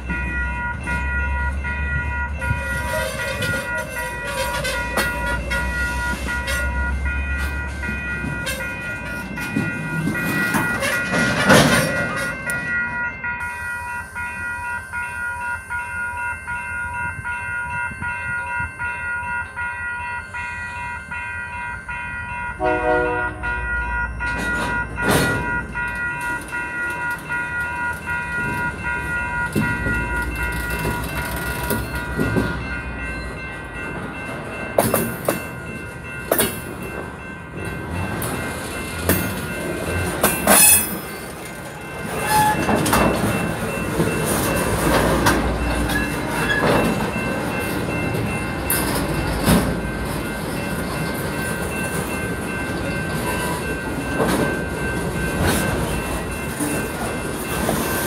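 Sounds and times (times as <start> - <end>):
freight train wheel clatter: 0.0 - 13.0, 24.0 - 58.0
crossing signal bell ringing: 0.0 - 58.0.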